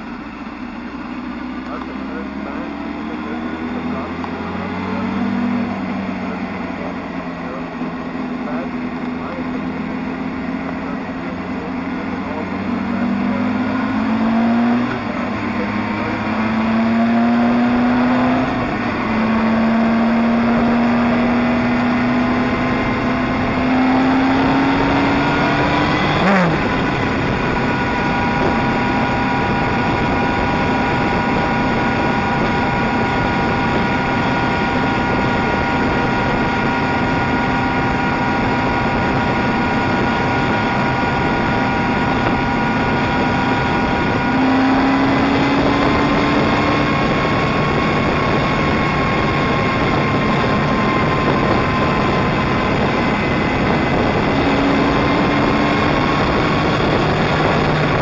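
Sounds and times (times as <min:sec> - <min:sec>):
motorcycle engine: 0:00.0 - 0:58.0
wind and road noise: 0:00.0 - 0:58.0.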